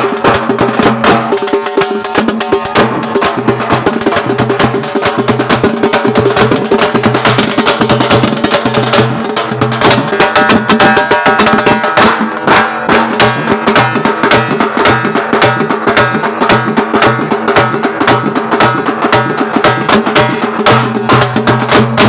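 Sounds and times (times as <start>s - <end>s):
procession music with drumming: 0.0s - 22.0s.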